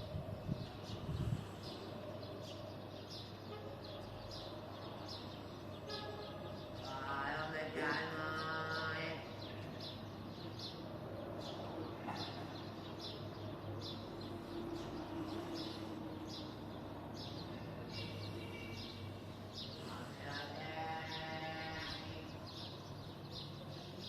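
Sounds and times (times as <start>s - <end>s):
sparrows chirping: 0.0s - 24.0s.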